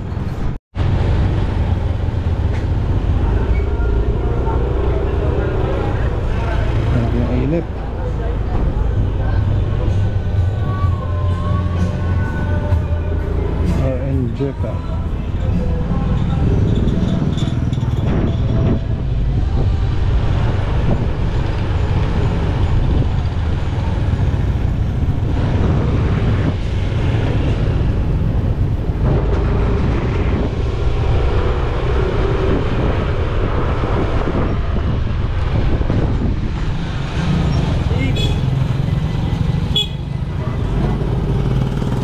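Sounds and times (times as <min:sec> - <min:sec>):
road traffic noise: 0:00.0 - 0:42.0
vehicle engine rumbling: 0:00.0 - 0:42.0.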